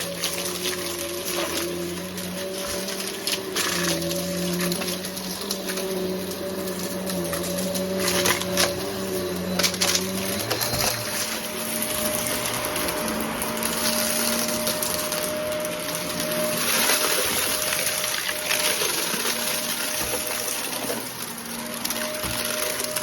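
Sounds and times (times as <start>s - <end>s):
debris crackling in vacuum: 0.0s - 23.0s
vacuum cleaner running: 0.0s - 23.0s.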